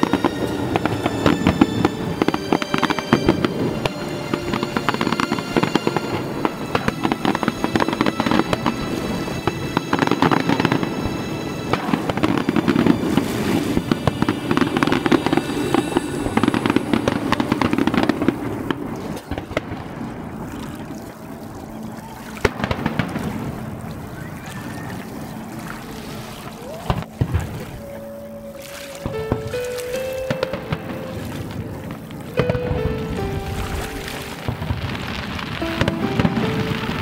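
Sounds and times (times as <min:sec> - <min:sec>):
fireworks bangs and crackling: 0:00.0 - 0:20.5, 0:22.4 - 0:25.4, 0:26.9 - 0:27.7, 0:29.0 - 0:37.0.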